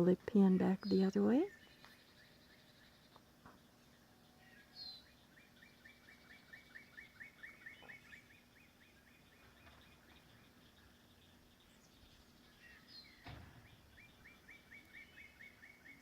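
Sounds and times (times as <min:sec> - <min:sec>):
faint songbird trill: 0:00.2 - 0:16.0.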